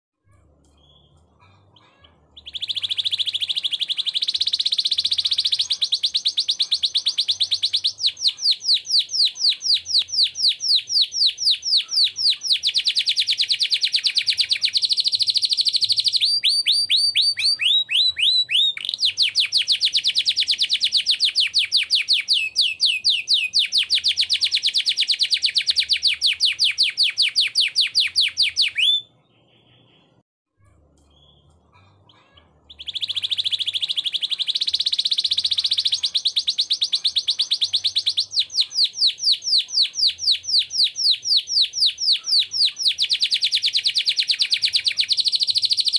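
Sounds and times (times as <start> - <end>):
canary singing trills: 0.3 - 45.9.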